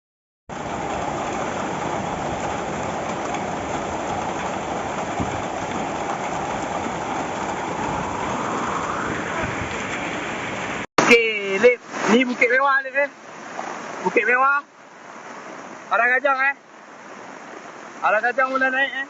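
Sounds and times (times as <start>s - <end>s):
water rushing: 0.5s - 19.0s.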